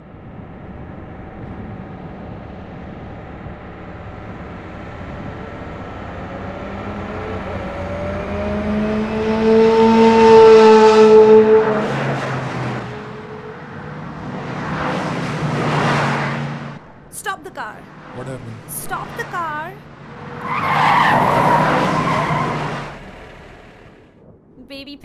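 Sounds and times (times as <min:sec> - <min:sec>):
sports car engine accelerating: 0:00.0 - 0:17.2, 0:17.8 - 0:24.2.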